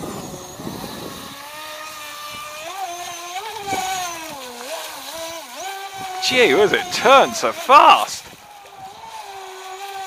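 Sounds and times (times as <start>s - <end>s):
model boat motor whining: 0.0s - 10.0s.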